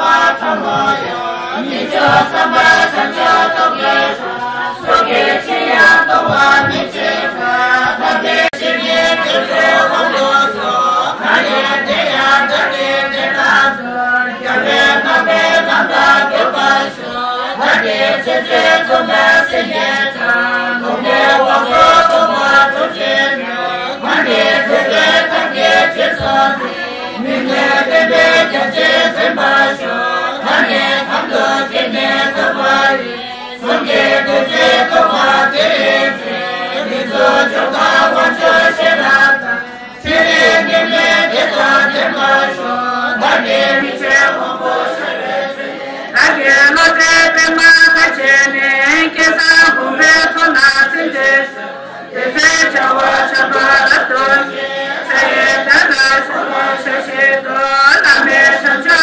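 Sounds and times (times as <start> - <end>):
group chanting prayers in unison: 0.0 - 59.0.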